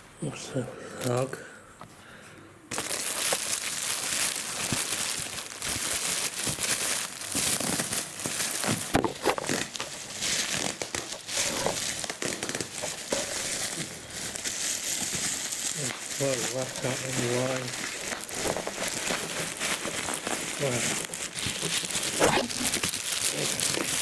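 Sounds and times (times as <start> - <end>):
packaging wrap crinkling: 2.7 - 24.0.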